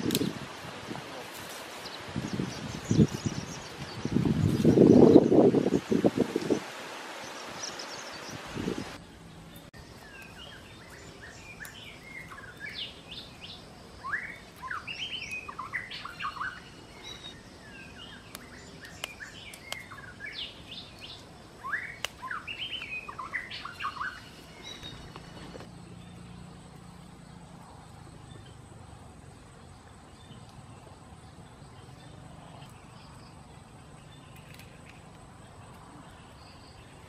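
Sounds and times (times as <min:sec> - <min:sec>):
small birds chirping: 0:01.1 - 0:37.0.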